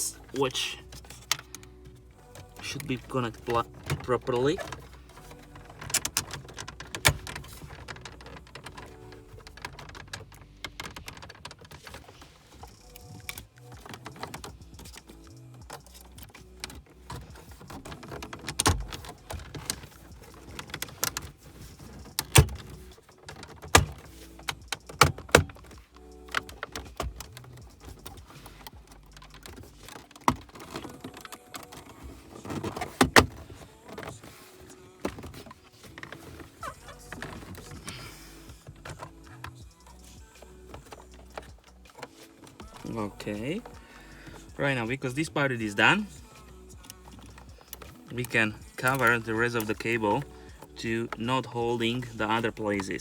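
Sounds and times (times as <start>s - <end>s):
plastic trim clicks and rattles: 0.1s - 53.0s
plastic trim snapping: 0.8s - 45.2s.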